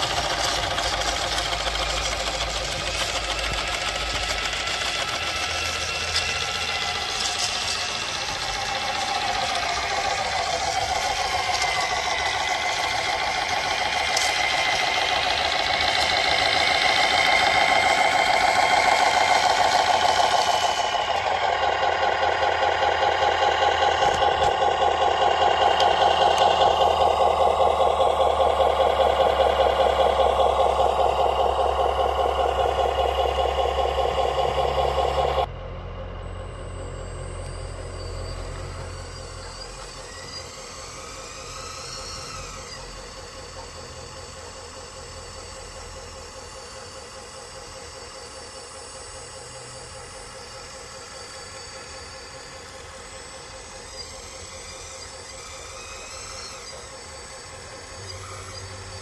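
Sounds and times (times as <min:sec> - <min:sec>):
simulated diesel truck engine: 0:00.0 - 0:59.0.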